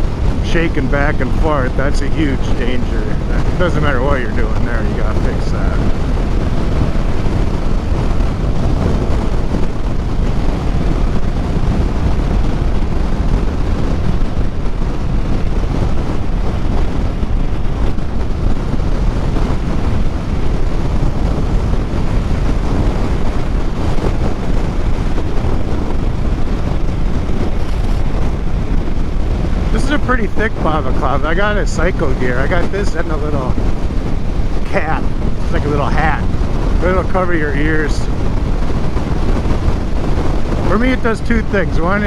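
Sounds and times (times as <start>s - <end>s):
motorcycle engine: 0.0s - 37.2s
road noise: 0.0s - 42.0s
wind rush on microphone: 0.0s - 42.0s.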